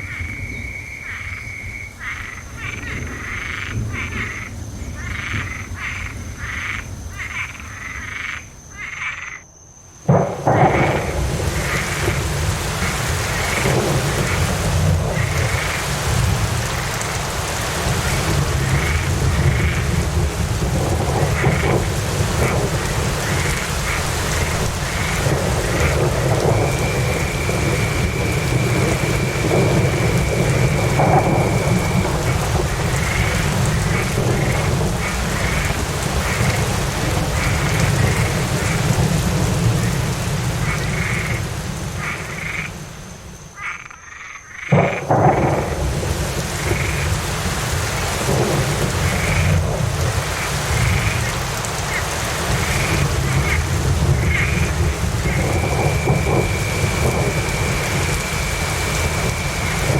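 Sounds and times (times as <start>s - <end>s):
distant thunder rumble: 0.0s - 8.4s, 10.0s - 42.9s, 44.5s - 59.9s
steady rain: 0.0s - 9.2s, 9.8s - 59.9s
frogs croaking: 0.0s - 59.9s.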